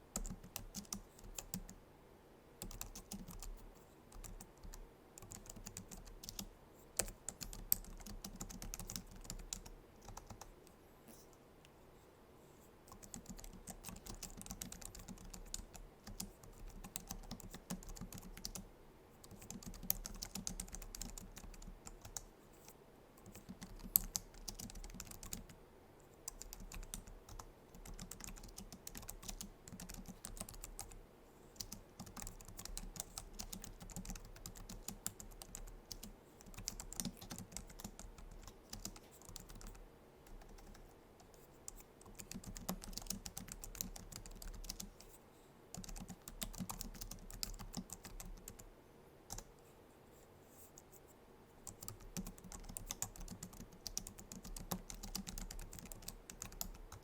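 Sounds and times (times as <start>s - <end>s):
keyboard typing: 0.2s - 1.8s, 2.6s - 10.5s, 12.9s - 22.3s, 23.2s - 25.6s, 26.3s - 31.0s, 31.6s - 48.7s, 49.3s - 49.5s, 51.6s - 57.0s.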